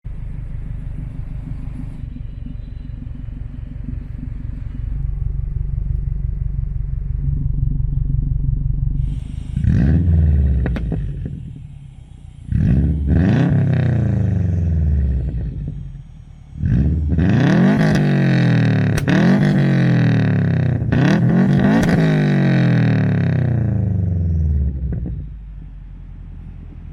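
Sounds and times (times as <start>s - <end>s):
car engine accelerating: 0.0s - 26.9s.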